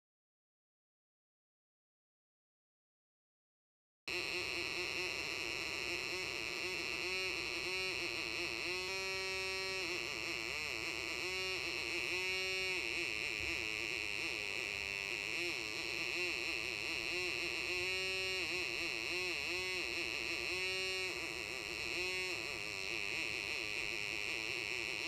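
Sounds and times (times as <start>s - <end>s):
buzzy wavering electronic tone: 4.1s - 25.0s.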